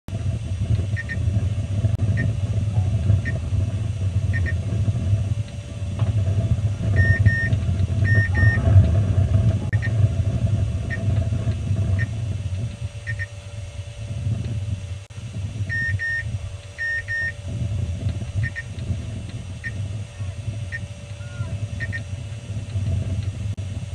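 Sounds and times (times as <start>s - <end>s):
steady low rumble: 0.1s - 23.9s.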